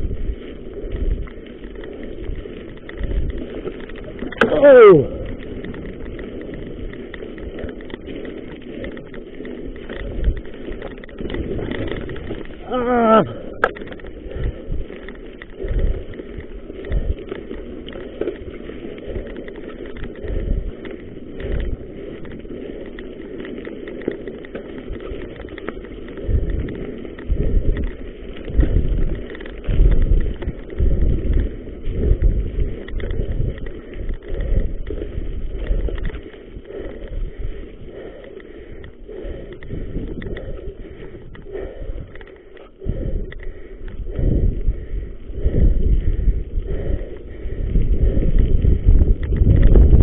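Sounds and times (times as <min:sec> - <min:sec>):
bike rattling over bumps: 0:00.0 - 0:50.0
bike tyres rolling over dirt: 0:00.0 - 0:50.0
wind buffeting microphone: 0:00.0 - 0:50.0.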